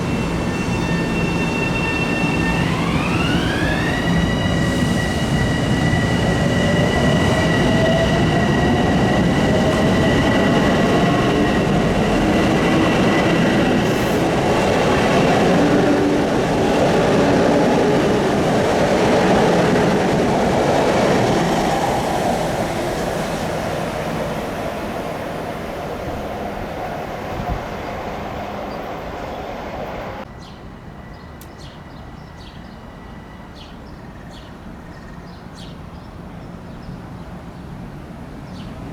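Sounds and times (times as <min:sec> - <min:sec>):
steady train whine: 0:00.0 - 0:38.9
train rolling by: 0:00.0 - 0:38.9.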